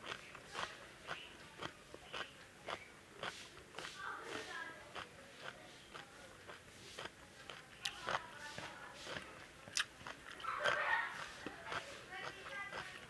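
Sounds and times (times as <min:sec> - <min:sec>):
chewing and mouth smacks: 0:00.0 - 0:13.0
fingers mixing food on steel plate: 0:00.0 - 0:13.0.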